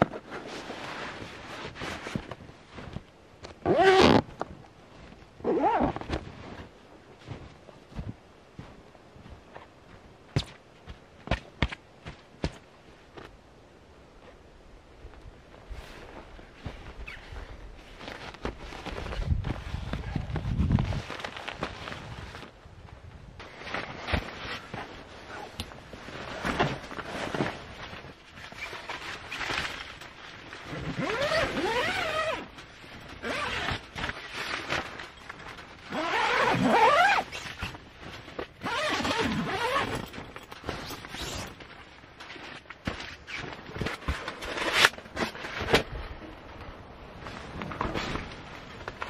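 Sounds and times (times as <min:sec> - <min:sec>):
fabric rustling and scraping: 0:00.0 - 0:09.7, 0:15.5 - 0:22.6, 0:23.4 - 0:49.0.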